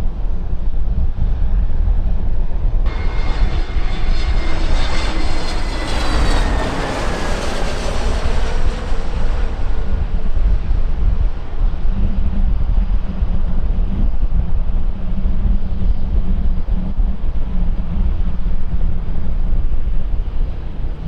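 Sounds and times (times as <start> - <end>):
wind rumble on microphone: 0.0 - 21.0
airliner engines whining past: 0.2 - 21.0.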